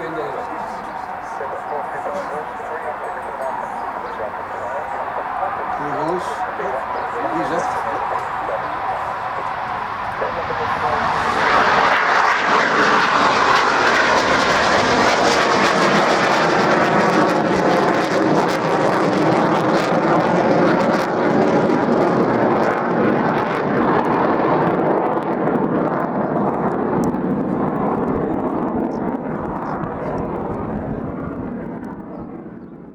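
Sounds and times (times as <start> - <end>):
aircraft engine roar: 0.0 - 32.9.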